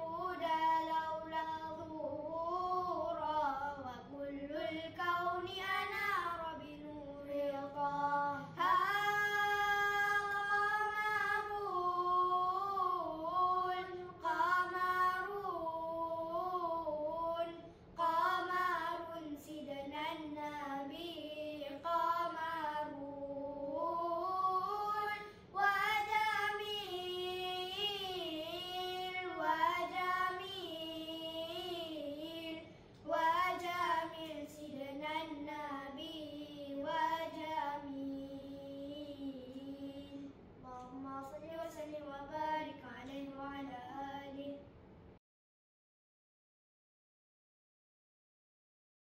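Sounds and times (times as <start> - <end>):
boys singing devotional chant: 0.0 - 44.6.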